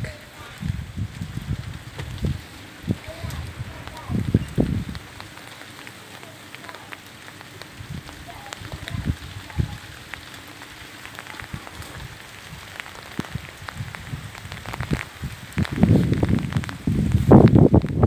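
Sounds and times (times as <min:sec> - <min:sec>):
ice pellets ticking: 0:00.0 - 0:18.0
rain hissing: 0:00.0 - 0:18.0.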